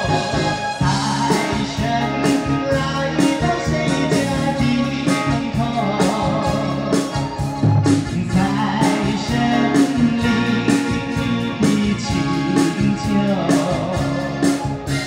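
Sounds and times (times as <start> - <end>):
backing track with beat: 0.0 - 15.0
man singing pop song: 0.0 - 15.0.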